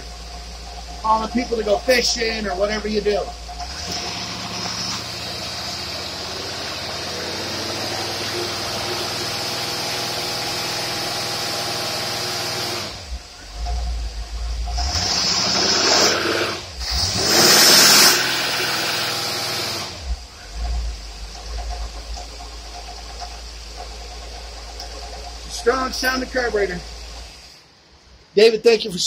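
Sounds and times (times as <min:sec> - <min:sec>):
engine running under load: 0:00.0 - 0:27.6.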